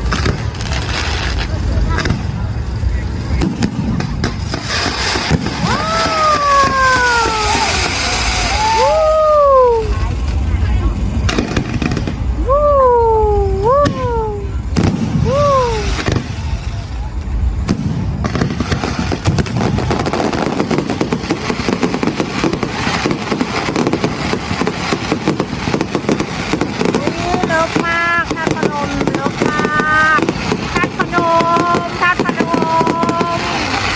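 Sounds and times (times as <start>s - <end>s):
deep rumble: 0.0s - 33.9s
fireworks crackling: 0.0s - 33.9s
outdoor crowd noise: 0.0s - 33.9s.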